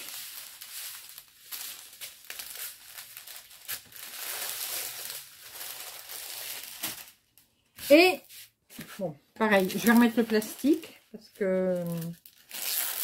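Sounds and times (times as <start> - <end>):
plastic packaging crinkling: 0.0 - 7.6, 9.5 - 13.0.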